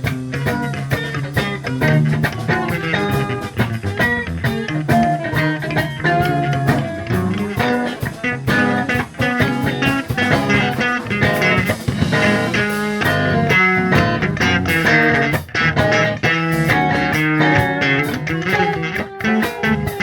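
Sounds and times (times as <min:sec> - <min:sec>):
reggae band playing: 0:00.0 - 0:20.0.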